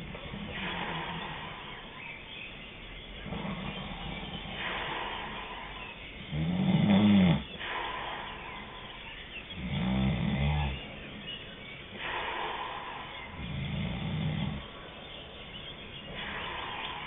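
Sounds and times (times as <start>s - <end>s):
low snores: 0.0s - 2.2s, 3.2s - 15.0s, 16.1s - 17.0s
soft breathing: 0.0s - 6.6s, 7.4s - 9.6s, 10.6s - 17.0s.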